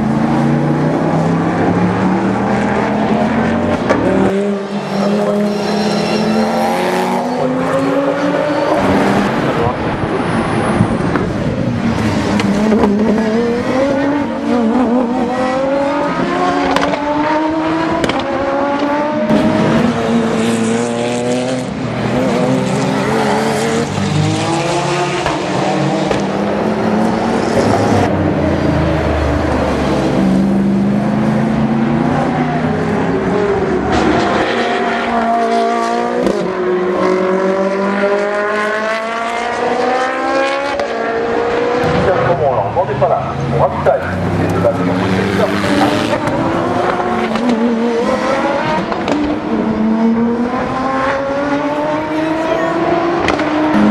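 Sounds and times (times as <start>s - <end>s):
race car engines at full throttle: 0.0s - 53.9s.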